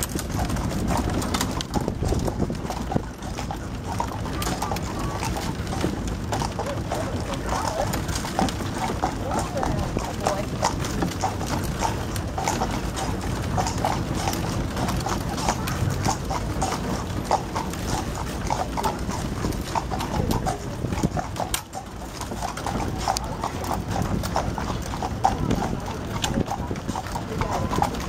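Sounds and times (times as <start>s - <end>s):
horse hooves clip-clopping on road: 0.0s - 28.0s
low rumble of buggy: 0.0s - 28.0s.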